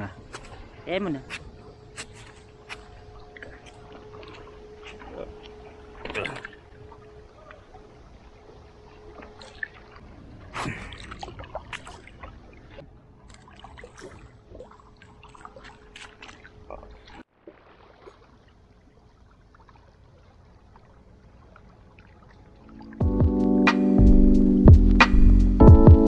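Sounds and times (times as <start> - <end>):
sea water lapping among rocks: 0.1 - 23.0
splashes and clicks of footsteps: 0.2 - 7.9, 8.5 - 23.0.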